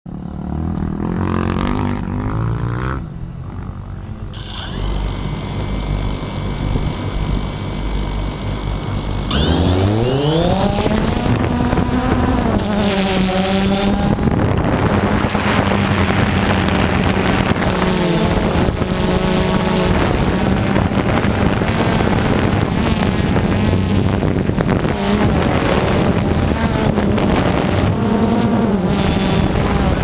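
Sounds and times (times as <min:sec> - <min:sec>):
motocross bike engine revving: 0:00.1 - 0:30.0.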